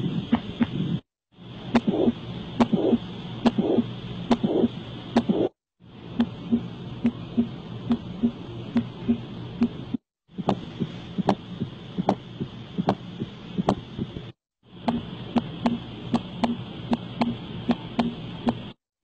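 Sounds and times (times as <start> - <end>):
heartbeat: 0.0 - 1.0, 1.8 - 5.6, 6.2 - 18.6.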